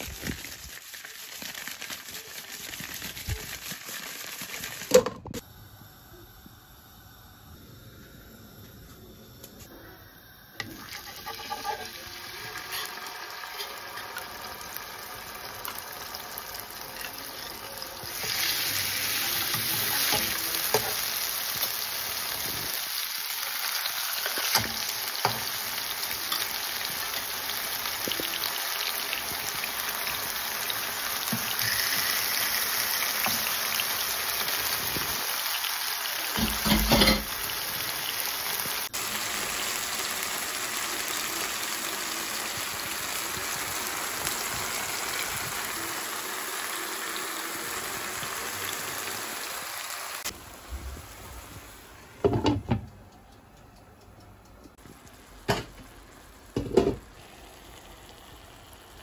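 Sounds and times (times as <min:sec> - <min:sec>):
fish sizzling in oil: 0:00.0 - 0:05.0, 0:10.4 - 0:52.1, 0:54.9 - 0:59.0.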